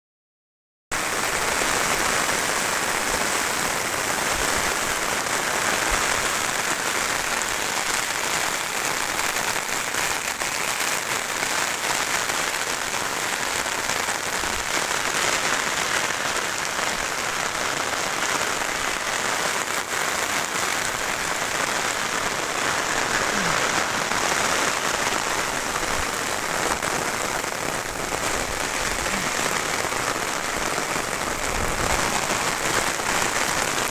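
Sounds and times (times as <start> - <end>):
rain falling: 1.0 - 33.9.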